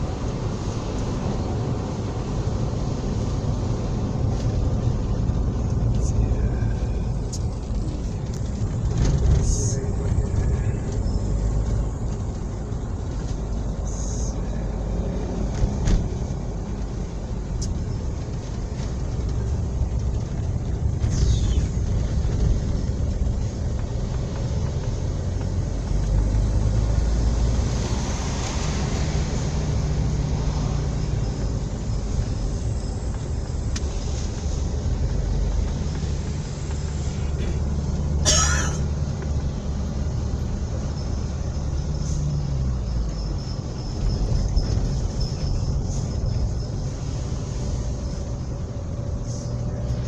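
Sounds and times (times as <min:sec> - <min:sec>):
vehicle engine and tyre noise: 0:00.0 - 0:50.0.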